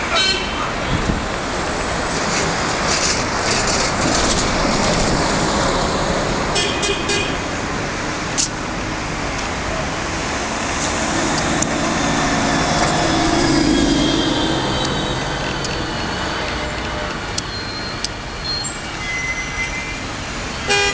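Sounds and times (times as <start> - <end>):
street traffic passing: 0.0 - 20.9.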